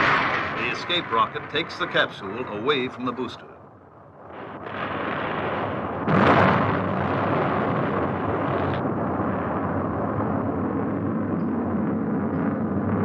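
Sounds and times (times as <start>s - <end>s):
rocket explosion blast: 0.0s - 13.0s
rushing noise of burning: 0.0s - 13.0s.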